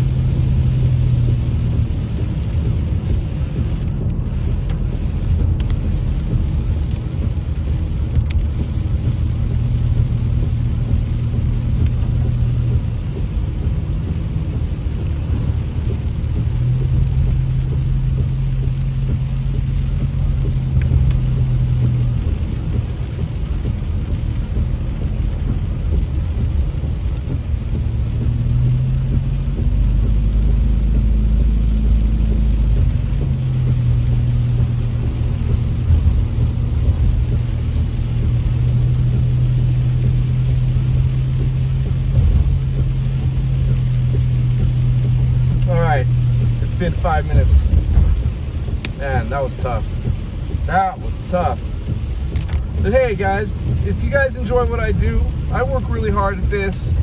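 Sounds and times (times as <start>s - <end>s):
car engine and road hum: 0.0s - 57.0s
tyres hissing on wet road: 0.0s - 57.0s.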